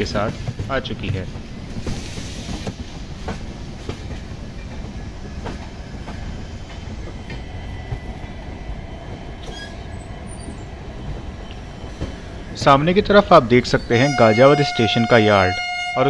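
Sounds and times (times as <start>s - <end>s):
train wheels over rail joints: 0.0s - 16.0s.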